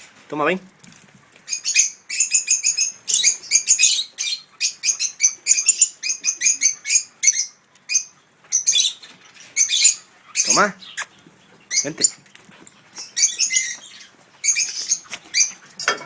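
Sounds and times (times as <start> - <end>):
small birds chirping: 0.4 - 15.9.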